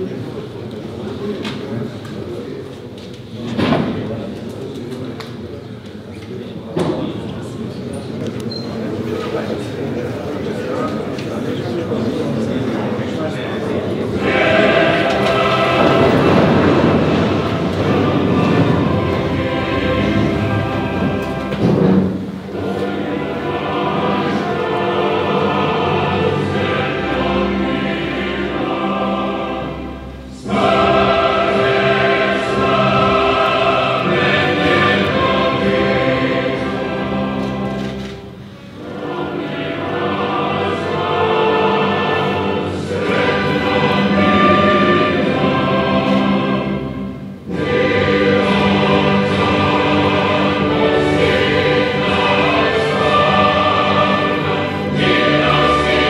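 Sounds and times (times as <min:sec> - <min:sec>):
choir singing solemn anthem: 0:10.3 - 0:56.0.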